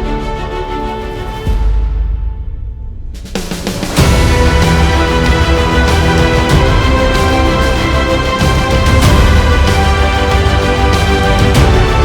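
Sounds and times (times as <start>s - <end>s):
dark low bass music: 0.0s - 12.0s.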